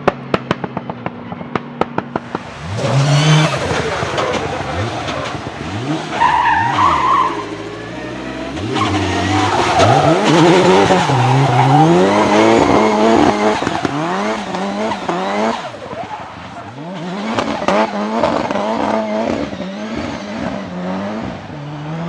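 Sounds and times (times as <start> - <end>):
car engine revving: 0.1 - 22.0
tyre squeal: 2.6 - 20.7.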